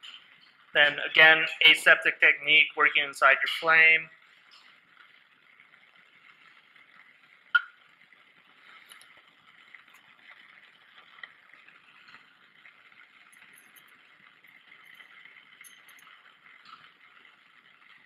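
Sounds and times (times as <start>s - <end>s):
bunsen burner hissing: 0.0s - 18.0s.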